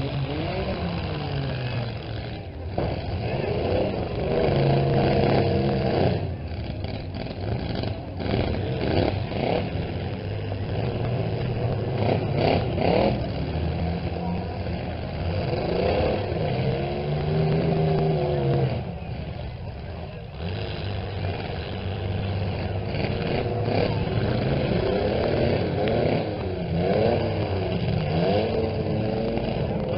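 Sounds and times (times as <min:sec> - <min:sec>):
truck engines revving: 0:00.0 - 0:29.9.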